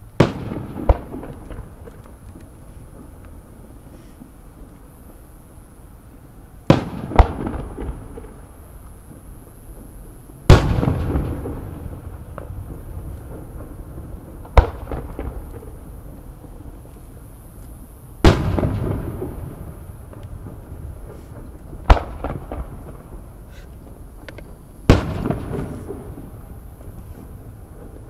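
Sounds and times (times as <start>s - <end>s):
firework shells bursting: 0.1s - 5.6s, 6.6s - 28.0s.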